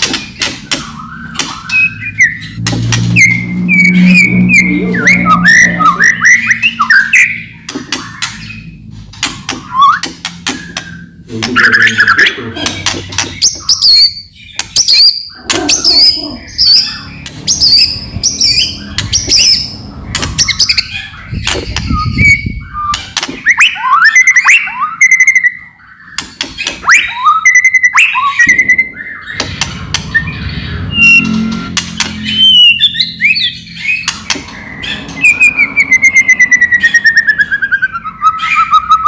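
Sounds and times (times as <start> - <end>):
songbird singing: 0.0 - 39.0.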